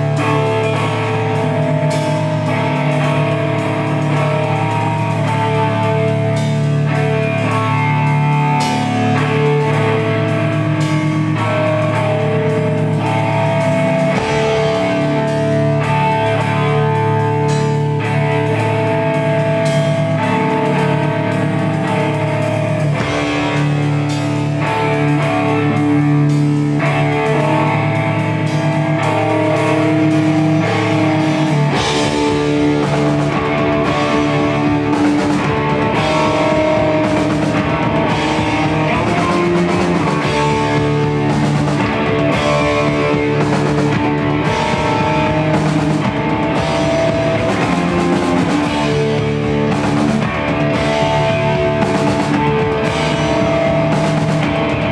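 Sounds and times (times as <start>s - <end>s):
drum kit: 0.0s - 54.9s
guitars sustaining notes: 0.0s - 54.9s.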